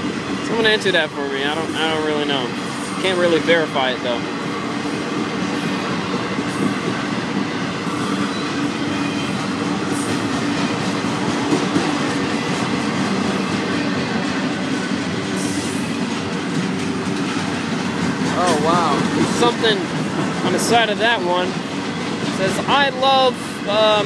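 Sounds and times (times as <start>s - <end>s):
freight train wheels rolling: 0.0s - 24.0s.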